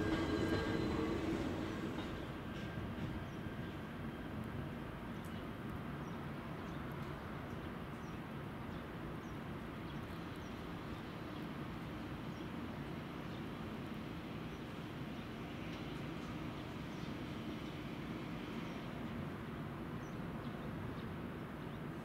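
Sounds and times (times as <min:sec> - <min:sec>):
railway station rumble and hum: 0:00.0 - 0:22.0.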